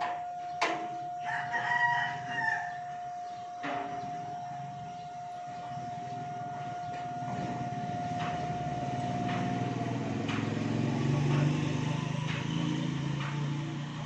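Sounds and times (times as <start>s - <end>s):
engine humming: 0.0s - 14.0s
steady high tone: 0.0s - 14.0s.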